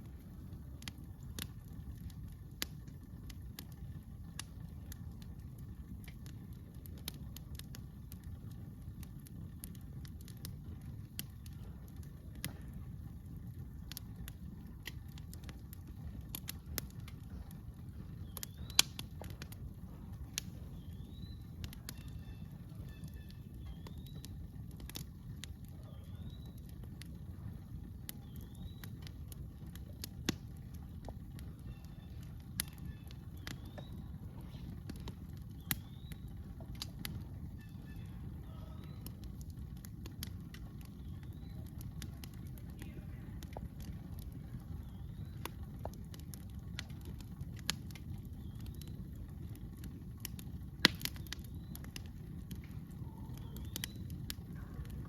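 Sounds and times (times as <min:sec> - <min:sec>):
campfire crackling and popping: 0:00.0 - 0:55.0
low steady rumble: 0:00.0 - 0:55.0.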